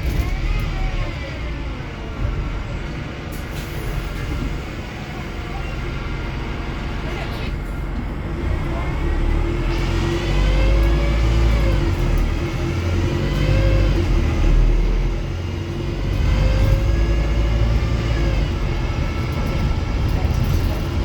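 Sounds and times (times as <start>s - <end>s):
bus engine drone accelerating: 0.0s - 21.0s.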